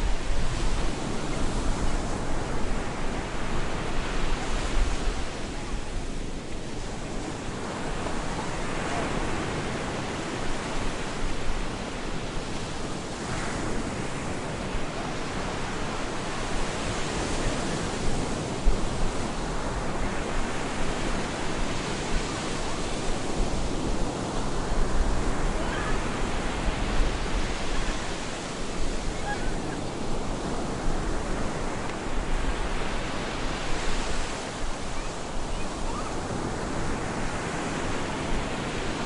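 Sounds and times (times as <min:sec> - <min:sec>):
waves breaking on a beach: 0:00.0 - 0:39.0
wind: 0:00.0 - 0:39.0.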